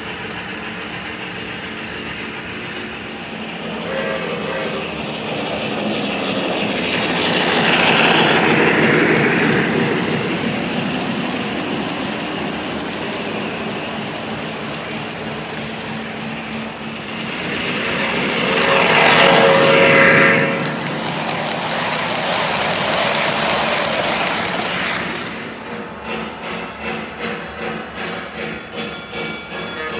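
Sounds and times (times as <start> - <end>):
model train rumbling on track: 0.0 - 29.9.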